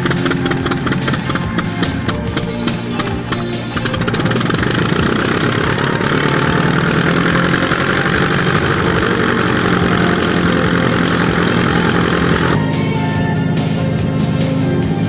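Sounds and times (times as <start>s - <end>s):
light aircraft engine running: 0.0s - 15.0s.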